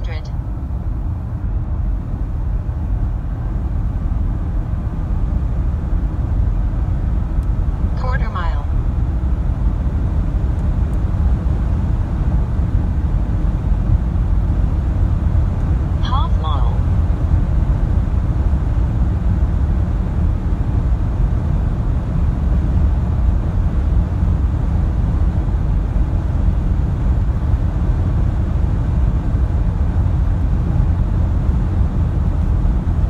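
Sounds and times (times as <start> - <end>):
wind and tyre rumble in car cabin: 0.0 - 33.0.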